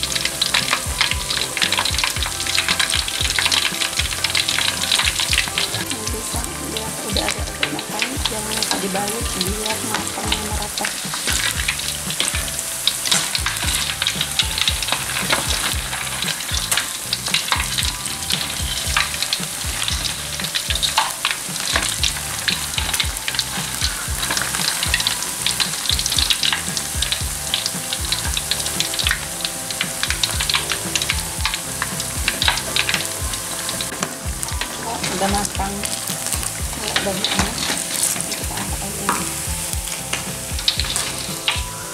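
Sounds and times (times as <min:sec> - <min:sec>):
crackers sizzling in hot oil: 0:00.0 - 0:41.9.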